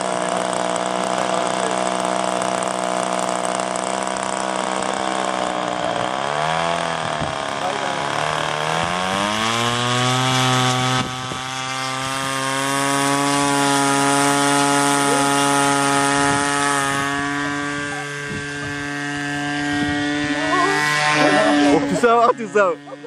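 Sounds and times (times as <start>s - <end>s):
model airplane motor buzzing: 0.0s - 23.0s.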